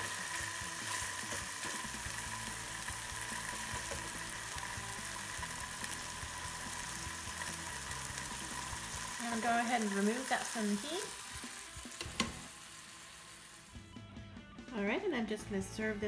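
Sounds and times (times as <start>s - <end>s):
tofu sizzling in a pan: 0.0s - 13.9s.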